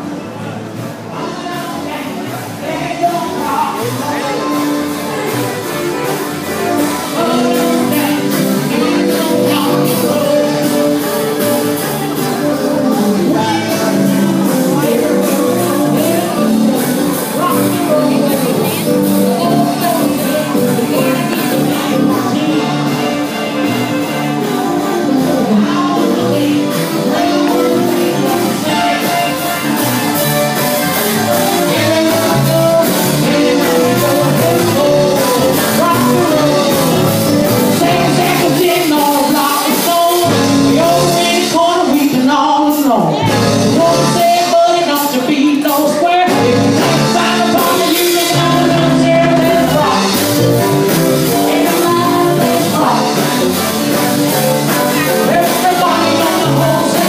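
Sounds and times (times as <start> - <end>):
guitar: 0.0 - 57.0
live blues band playing: 0.0 - 57.0
person singing: 0.0 - 57.0.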